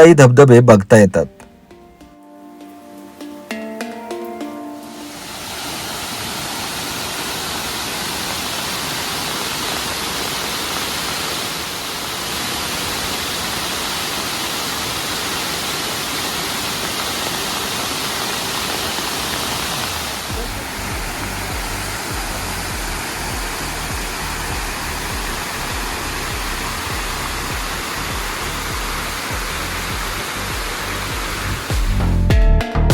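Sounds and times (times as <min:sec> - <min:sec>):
waterfall rushing: 0:04.5 - 0:32.0.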